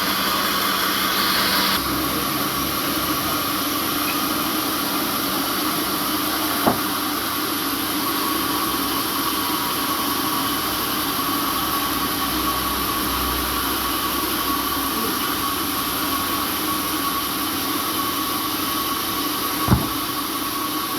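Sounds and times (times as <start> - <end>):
sawmill machinery running: 0.0 - 20.9.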